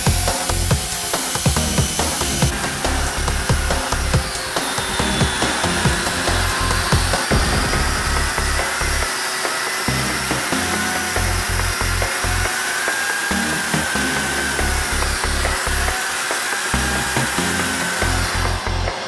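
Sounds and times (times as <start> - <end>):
background music with low beat: 0.0 - 16.0
concrete saw cutting with whine: 0.0 - 19.0.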